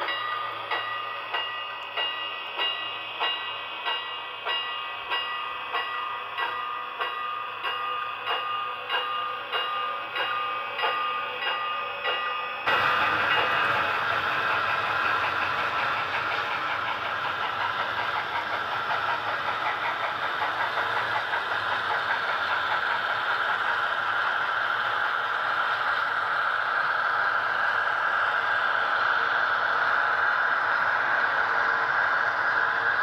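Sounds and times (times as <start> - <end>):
model train rumbling over bridge: 0.0 - 33.0
model train wheels clicking: 0.0 - 33.0.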